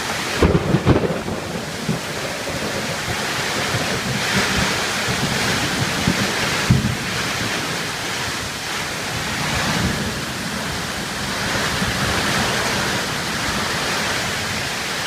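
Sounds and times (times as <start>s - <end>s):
gusting wind: 0.0s - 15.0s
heavy rain: 0.0s - 15.0s
wind buffeting microphone: 0.4s - 15.0s.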